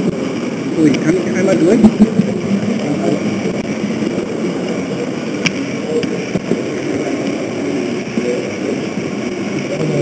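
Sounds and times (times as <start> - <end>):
model train running: 0.0 - 10.0.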